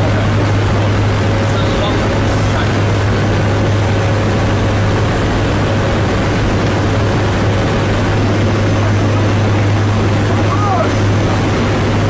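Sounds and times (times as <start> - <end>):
aircraft cabin propeller drone: 0.0 - 12.0.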